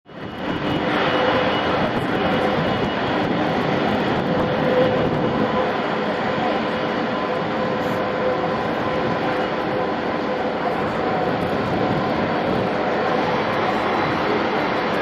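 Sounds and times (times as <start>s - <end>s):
jet engines running: 0.1s - 15.0s.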